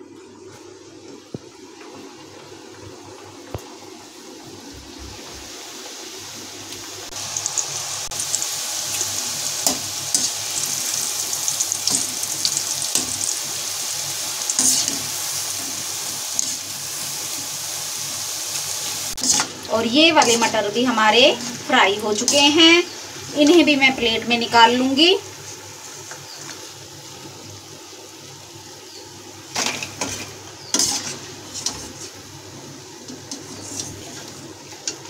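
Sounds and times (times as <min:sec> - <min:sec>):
dough deep-frying in hot oil: 0:00.0 - 0:35.0
crackles and pops of frying: 0:06.6 - 0:35.0.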